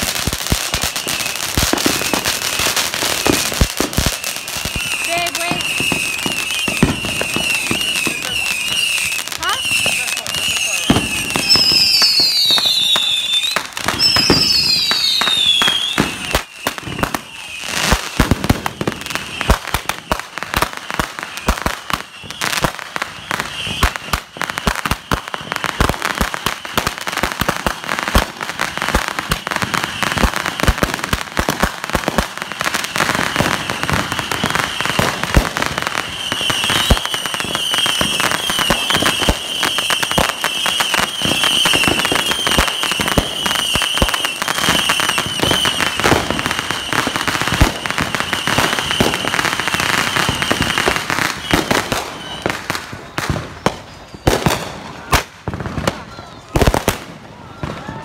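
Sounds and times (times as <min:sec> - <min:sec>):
falling firework whistles: 0:00.0 - 0:58.0
fireworks bangs and crackling: 0:00.0 - 0:58.0.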